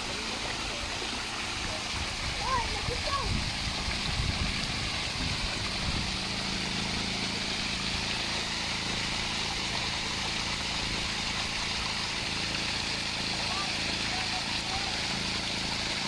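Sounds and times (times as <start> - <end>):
motor hum: 0.0 - 16.0
water falling from pool waterfall: 0.0 - 16.0.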